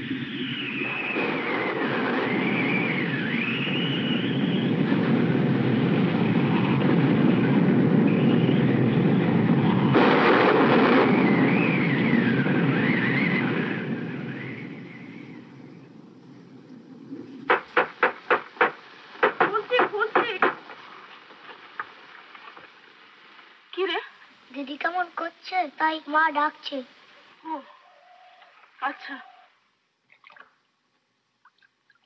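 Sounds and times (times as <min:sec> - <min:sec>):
storm wind whistling: 0:00.0 - 0:29.5
heavy rain: 0:00.0 - 0:29.8.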